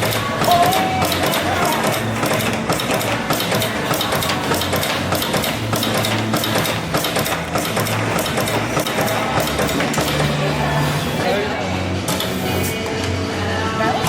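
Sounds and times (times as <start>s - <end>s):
factory equipment knocking and clicking: 0.0s - 13.2s.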